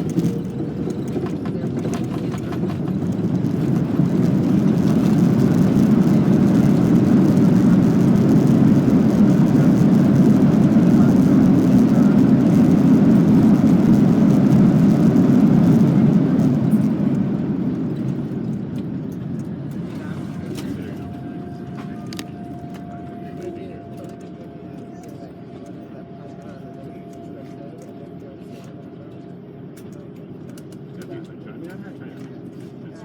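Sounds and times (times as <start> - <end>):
jet engines reverse thrust roar: 0.0 - 27.3.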